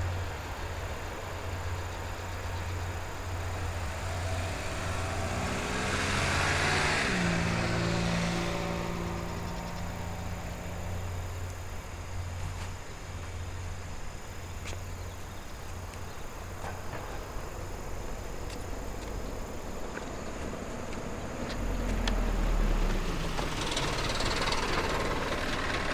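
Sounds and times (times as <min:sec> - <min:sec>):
insects chirping: 0:00.0 - 0:25.9
railcar diesel engine humming: 0:00.0 - 0:25.9.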